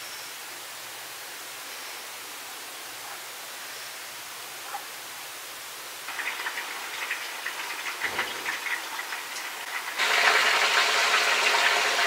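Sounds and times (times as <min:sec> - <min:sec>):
steady rushing hiss: 0:00.0 - 0:11.1.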